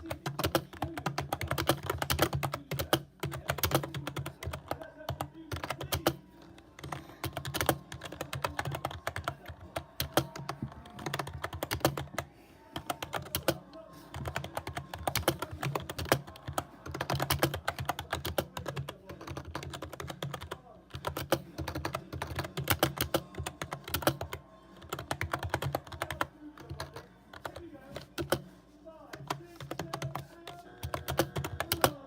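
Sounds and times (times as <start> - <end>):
typing on keyboard: 0.0 - 6.2, 6.8 - 32.0.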